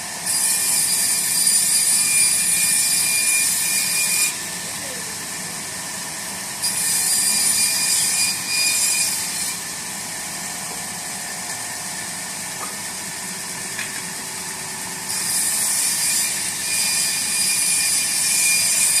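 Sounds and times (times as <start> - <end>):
saw blade whining through wood: 0.0 - 19.0
sawmill running: 0.0 - 19.0.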